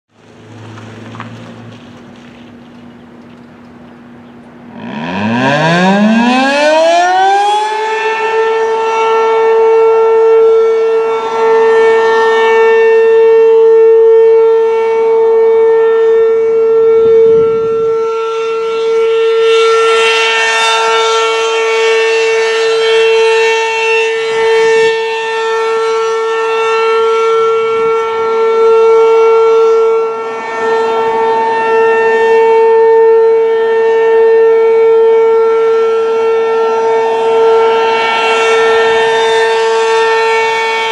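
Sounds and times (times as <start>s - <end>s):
outdoor warning siren: 0.1s - 40.9s.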